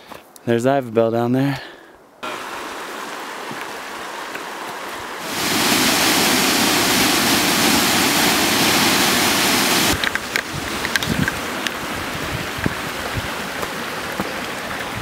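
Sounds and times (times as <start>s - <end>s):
creek flowing: 2.2s - 15.0s
small waterfall rushing: 2.2s - 15.0s.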